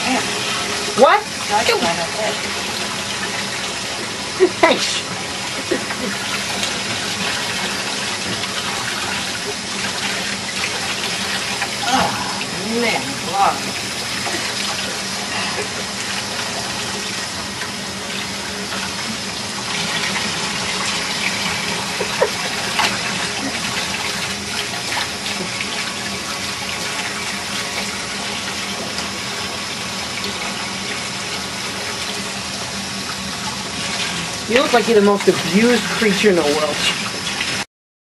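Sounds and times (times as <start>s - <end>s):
water running from a tap: 0.0s - 37.7s.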